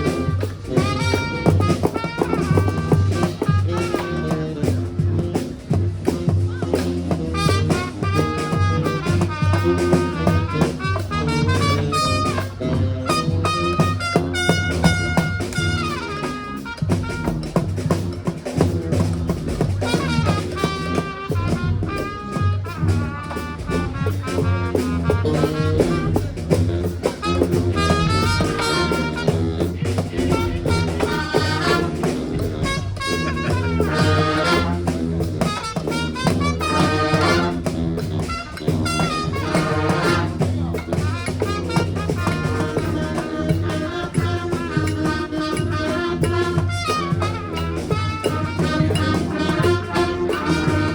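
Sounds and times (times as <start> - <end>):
brass band playing: 0.0 - 50.9
steady drum beat: 0.0 - 50.9.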